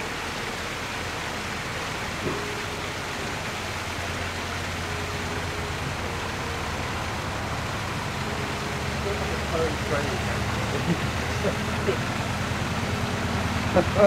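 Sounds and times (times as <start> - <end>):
water rushing through lock gate: 0.0 - 14.0.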